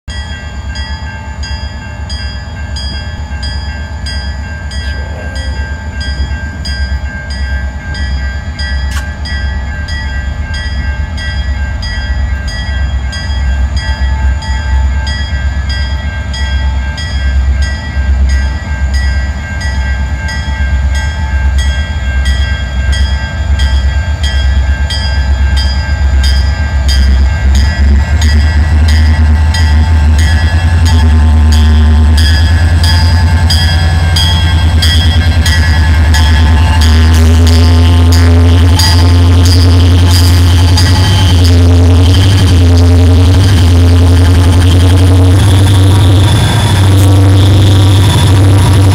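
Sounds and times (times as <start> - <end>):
locomotive rumble: 0.1 - 48.9
railroad crossing bells ringing: 0.1 - 48.9.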